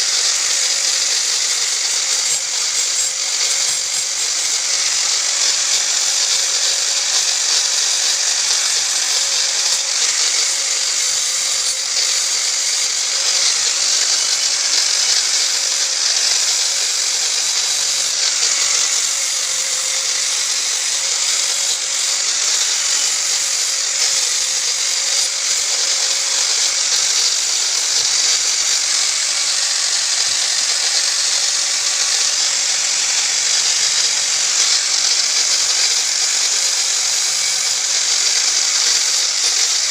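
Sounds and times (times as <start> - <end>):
power tool grinding hiss: 0.0 - 39.9.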